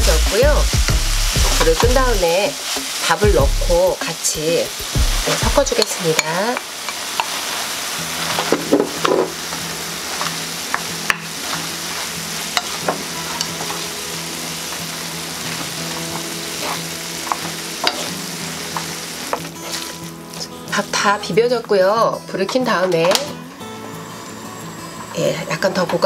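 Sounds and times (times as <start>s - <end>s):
frying pan sizzling: 0.0s - 21.2s.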